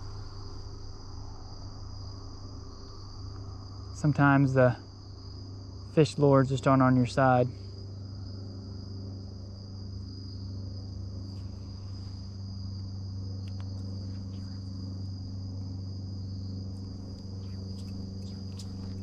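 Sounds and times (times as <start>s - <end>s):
insects trilling: 0.0s - 19.0s
steady low hum: 0.0s - 19.0s.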